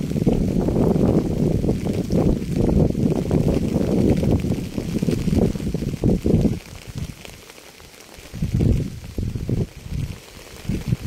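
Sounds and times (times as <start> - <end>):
dense rain patter: 0.0 - 11.0
muffled rushing rain: 0.0 - 11.0.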